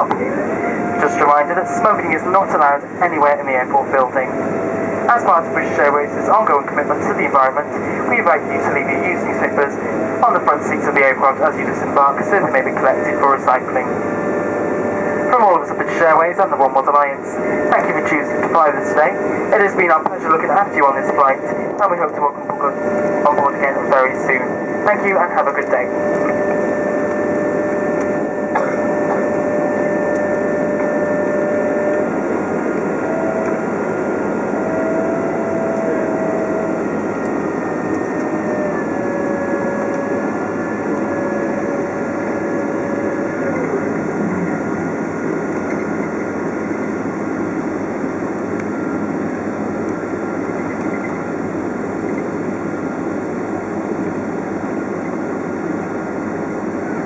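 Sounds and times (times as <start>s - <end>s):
aircraft cabin rumble: 0.0s - 57.0s
jet engine whine: 0.0s - 57.0s.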